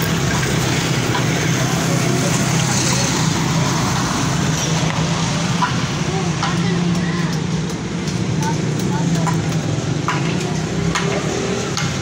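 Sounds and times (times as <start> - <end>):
street and yard noise: 0.0 - 12.0.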